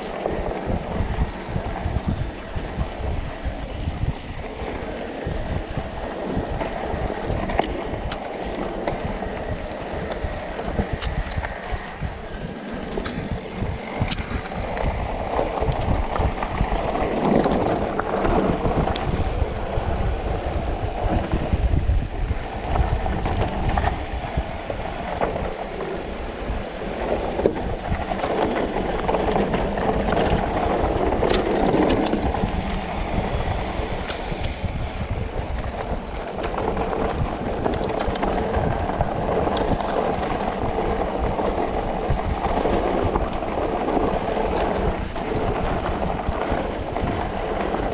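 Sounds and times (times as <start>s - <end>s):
bike tyres and frame rattling: 0.0s - 47.9s
wind buffeting microphone: 0.0s - 47.9s.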